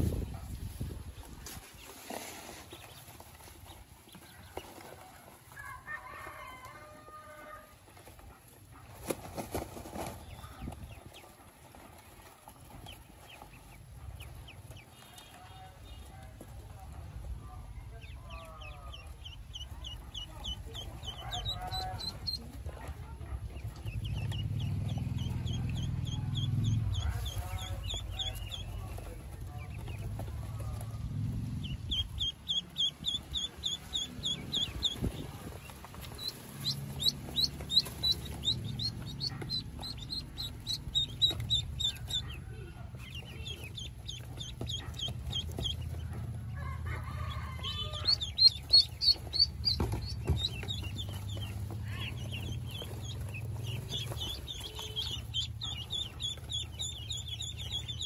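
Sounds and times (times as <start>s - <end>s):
ducklings peeping: 0.0s - 58.0s
low steady rumble: 10.2s - 58.0s.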